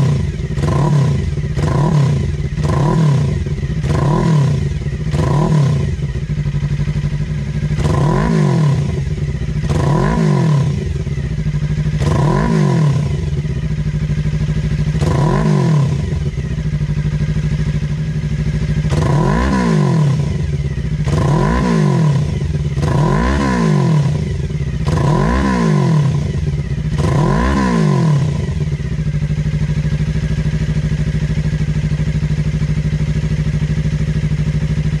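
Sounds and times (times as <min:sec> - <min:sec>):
motorcycle engine revving and idling: 0:00.0 - 0:35.0.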